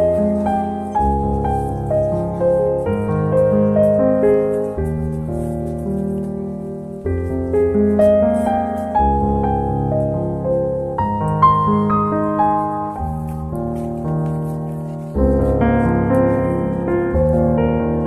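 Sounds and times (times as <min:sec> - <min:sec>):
gentle solo piano piece: 0:00.0 - 0:18.0.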